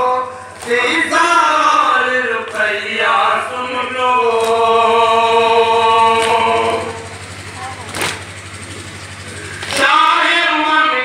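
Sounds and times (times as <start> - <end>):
men chanting a lament: 0.0 - 7.3, 9.2 - 11.0.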